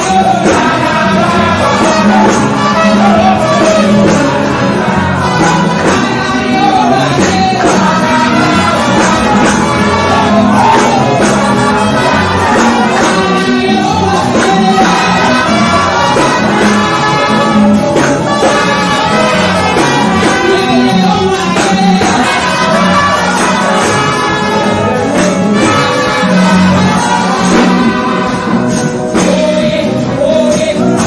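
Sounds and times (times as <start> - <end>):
gospel singing into microphones: 0.0 - 31.0
live band with steady beat: 0.0 - 31.0.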